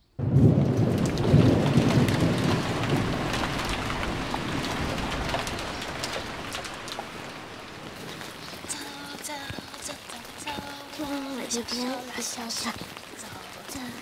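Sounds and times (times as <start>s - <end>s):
thunder rumbling: 0.0s - 14.0s
rain on wet paving: 0.2s - 14.0s.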